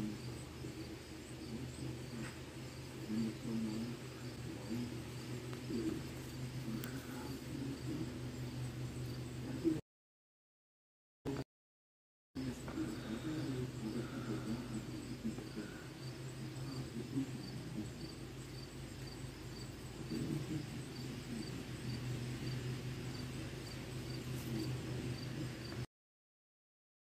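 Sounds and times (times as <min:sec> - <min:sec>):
cricket chirping: 0:00.0 - 0:09.8, 0:12.4 - 0:25.8
steady low hum: 0:00.0 - 0:09.8, 0:12.4 - 0:25.9.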